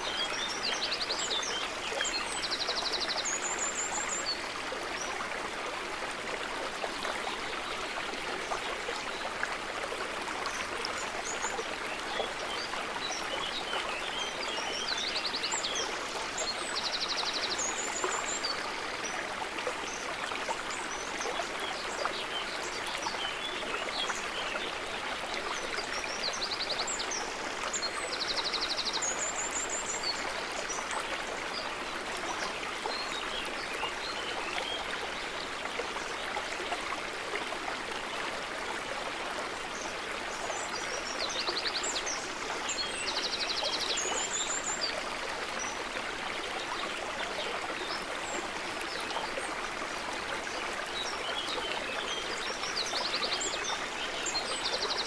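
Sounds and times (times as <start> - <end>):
small stream running: 0.0 - 55.0.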